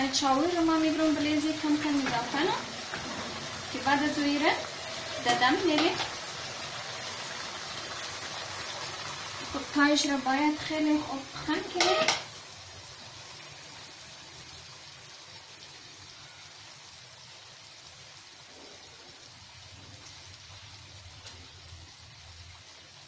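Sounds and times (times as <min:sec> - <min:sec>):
vegetables simmering in a pan: 0:00.0 - 0:23.0.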